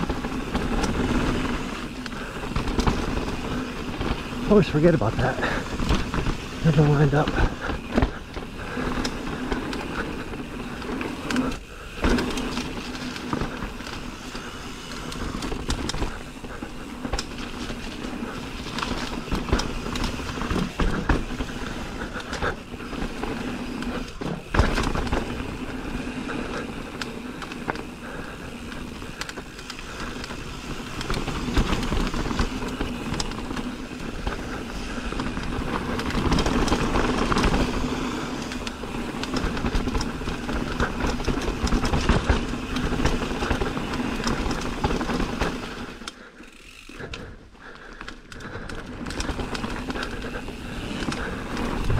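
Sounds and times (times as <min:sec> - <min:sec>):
bike knocks and rattles: 0:00.0 - 0:51.9
bike tyres on dirt trail: 0:00.0 - 0:51.9.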